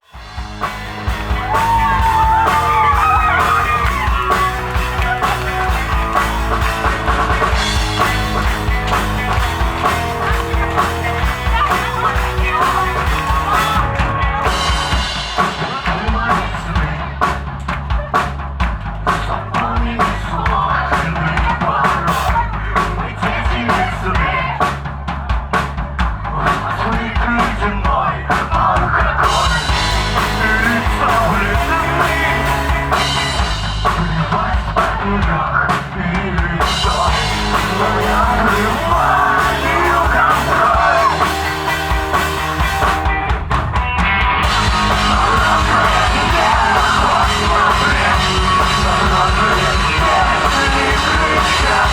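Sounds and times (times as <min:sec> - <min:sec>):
rock band playing live: 0:00.0 - 0:51.9.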